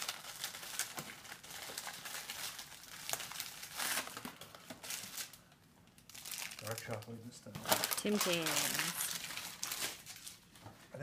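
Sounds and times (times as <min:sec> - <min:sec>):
plastic wrappers crinkling: 0:00.0 - 0:10.6.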